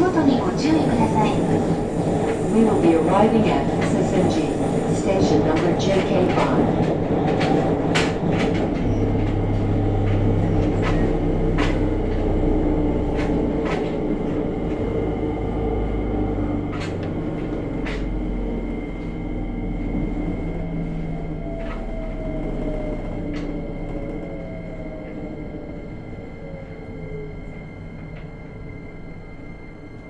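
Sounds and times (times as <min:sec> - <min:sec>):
traction motor humming: 0:00.0 - 0:26.6
train running rumble: 0:00.0 - 0:30.0.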